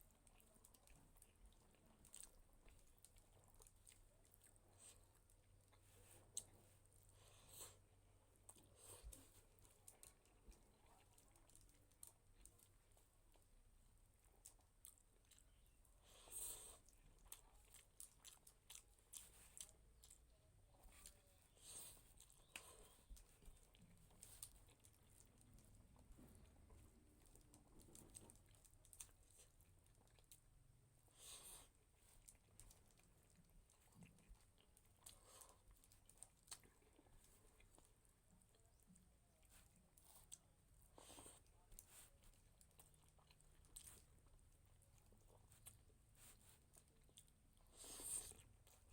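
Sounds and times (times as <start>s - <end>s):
soft chewing: 0.0s - 48.9s
soft slurping or rustling: 0.0s - 48.9s.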